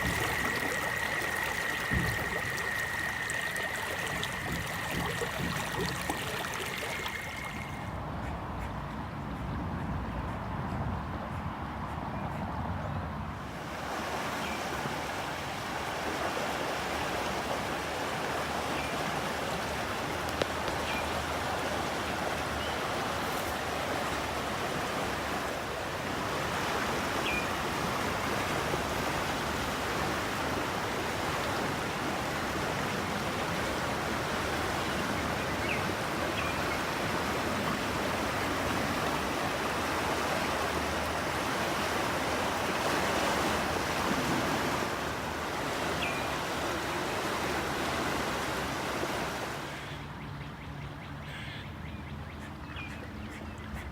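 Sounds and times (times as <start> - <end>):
water rushing: 0.0 - 8.3, 13.4 - 49.9.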